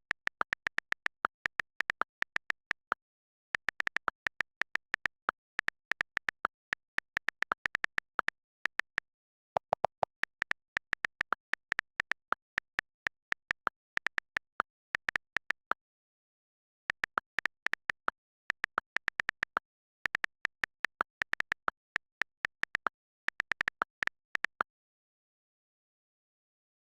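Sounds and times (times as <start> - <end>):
rapid typing key clicks: 0.0 - 15.8, 16.9 - 24.7.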